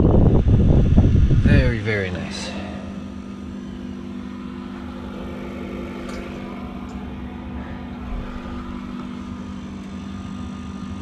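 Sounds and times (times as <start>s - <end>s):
air heater humming: 0.0s - 11.0s.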